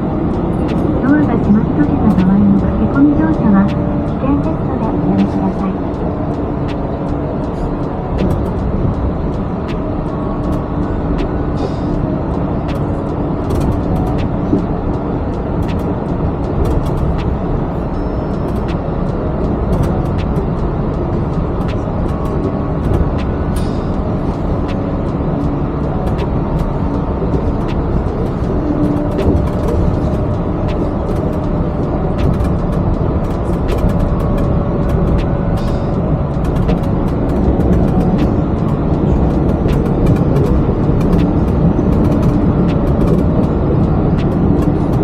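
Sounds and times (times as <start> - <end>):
train running rumble: 0.0 - 45.0.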